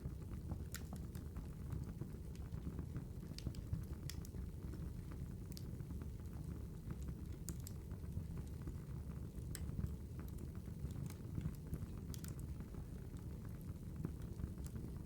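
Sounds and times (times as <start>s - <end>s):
wood fire crackling: 0.6s - 15.0s.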